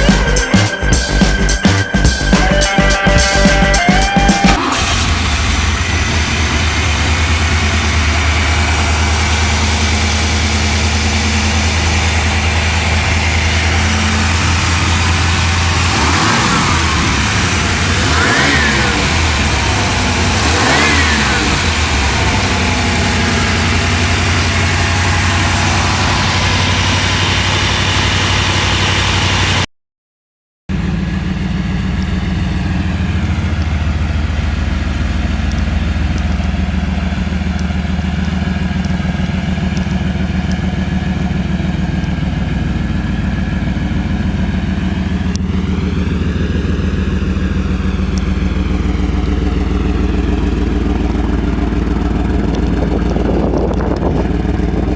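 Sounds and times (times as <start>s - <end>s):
car engine revving: 0.0s - 29.6s, 30.7s - 54.9s.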